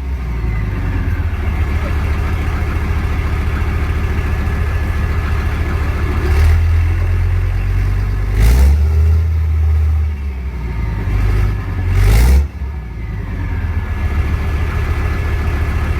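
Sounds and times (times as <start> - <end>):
diesel engine idling with revs: 0.0 - 15.9.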